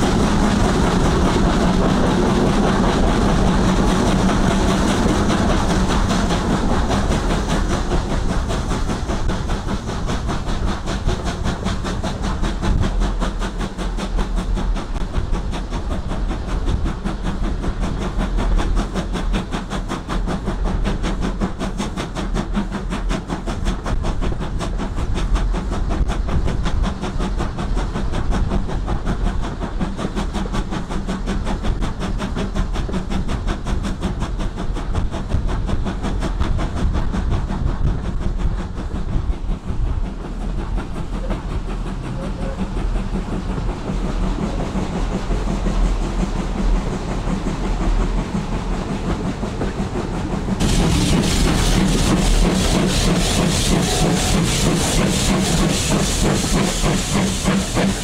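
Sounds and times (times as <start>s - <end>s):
steam locomotive exhaust hiss: 0.0s - 58.0s
train wheels clattering on rails: 0.0s - 58.0s.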